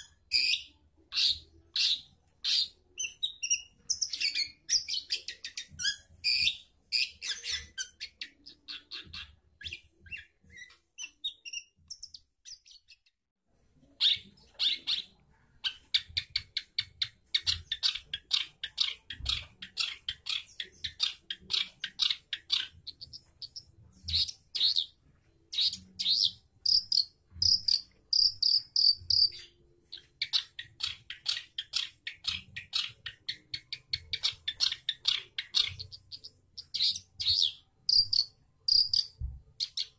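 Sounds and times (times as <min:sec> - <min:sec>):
bird scratchy chattering song: 0:00.0 - 0:13.0, 0:14.0 - 0:39.9.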